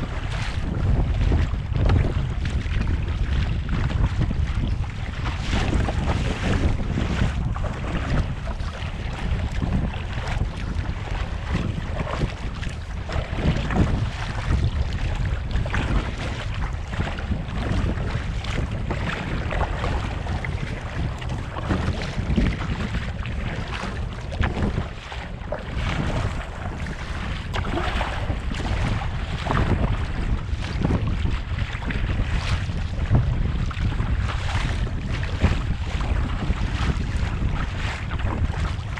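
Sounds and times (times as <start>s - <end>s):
water splashing around kayak: 0.0s - 38.9s
wind buffeting microphone: 0.0s - 38.9s.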